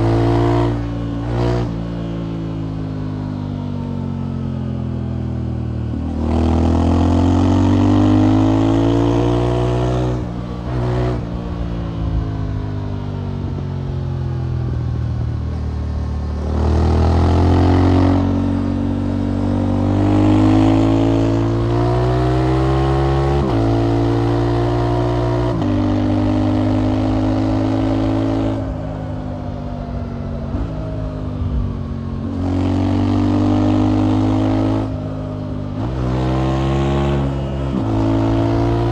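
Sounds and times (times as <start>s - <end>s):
motorcycle engine accelerating hard: 0.0s - 38.9s.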